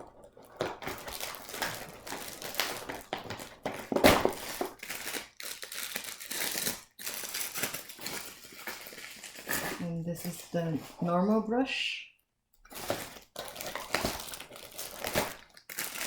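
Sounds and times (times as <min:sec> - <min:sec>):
plastic packaging crinkling: 0:00.0 - 0:10.9, 0:12.7 - 0:16.0.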